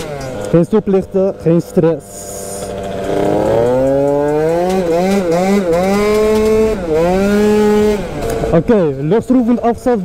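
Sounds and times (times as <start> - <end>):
scooter engine accelerating: 0.0 - 9.0.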